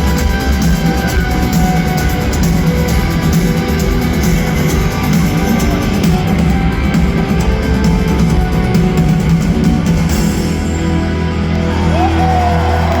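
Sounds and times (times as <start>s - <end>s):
distorted electric guitars: 0.0s - 13.0s
drums: 0.0s - 13.0s.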